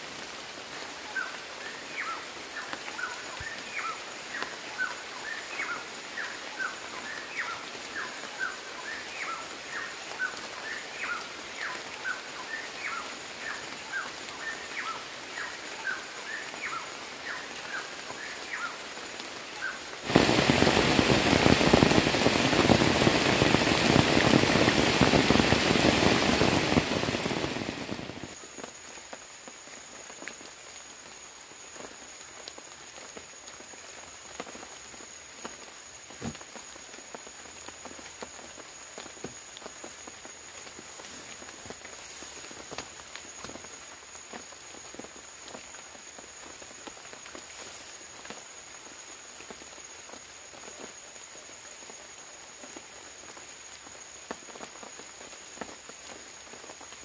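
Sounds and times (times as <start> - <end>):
heavy rain streaming off tarp: 0.0 - 57.0
light rain: 0.0 - 57.0
high-pitched insect whine: 0.7 - 57.0.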